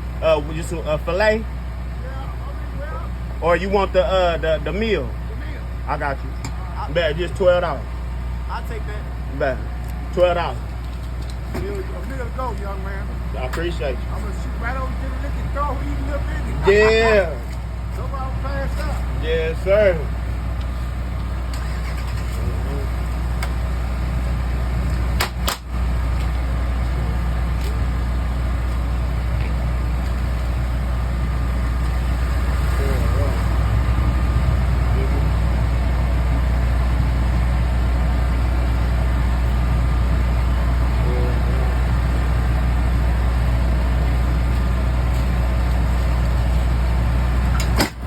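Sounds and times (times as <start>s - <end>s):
engine humming: 0.0s - 48.0s.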